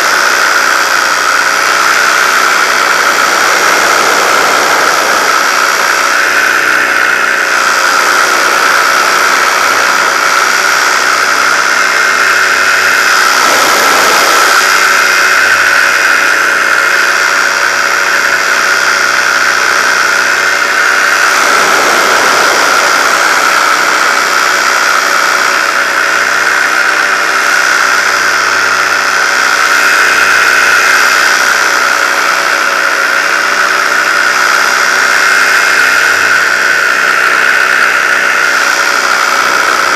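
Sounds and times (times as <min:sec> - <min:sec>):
paramotor engine buzzing drone: 0:00.0 - 0:39.9.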